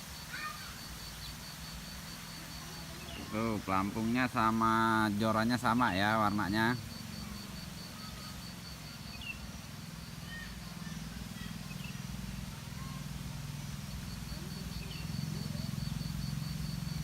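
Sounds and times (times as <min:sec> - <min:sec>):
faint bird chirps: 0:00.0 - 0:17.0
high pulsing insect-like tone: 0:00.0 - 0:17.0.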